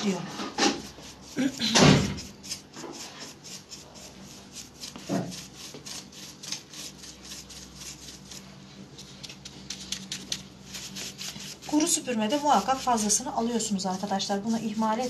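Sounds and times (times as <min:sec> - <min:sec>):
paintbrush scratching: 0:00.0 - 0:15.0.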